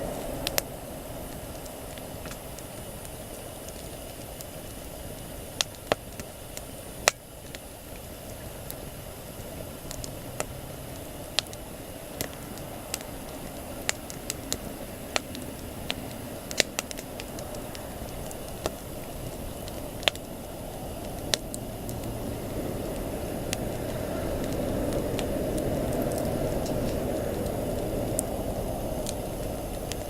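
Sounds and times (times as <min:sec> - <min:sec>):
low rush of flame: 0:00.0 - 0:30.0.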